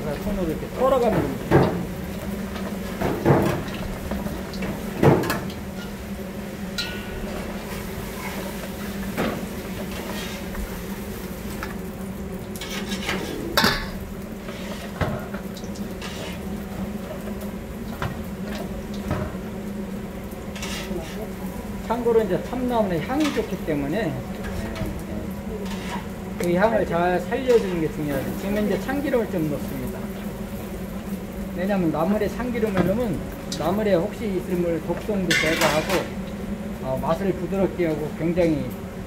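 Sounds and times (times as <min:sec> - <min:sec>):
steady low hum: 0:00.0 - 0:39.0
leaves rustling in a bowl: 0:03.6 - 0:36.2.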